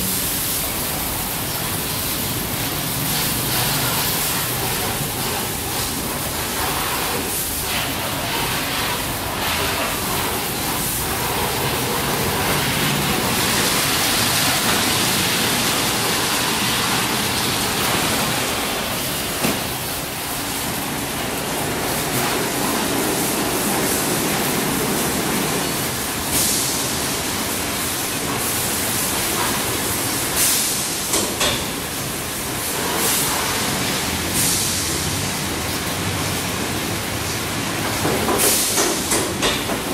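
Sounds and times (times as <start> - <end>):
spraying water: 0.0 - 39.9.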